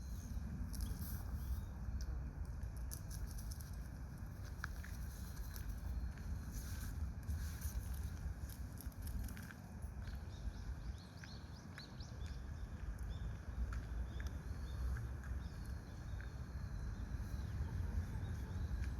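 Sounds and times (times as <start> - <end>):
low outdoor rumble: 0.0 - 18.9.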